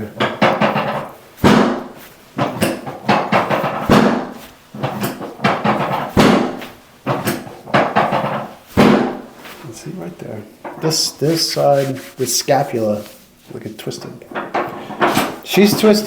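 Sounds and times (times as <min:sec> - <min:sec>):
irregular thumps: 0:00.0 - 0:13.4.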